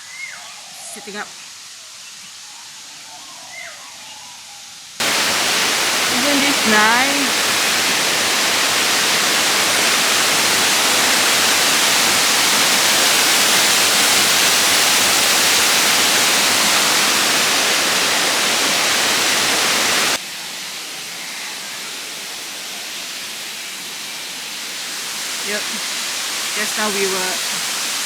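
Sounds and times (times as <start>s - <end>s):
waterfall rushing: 5.0s - 28.0s.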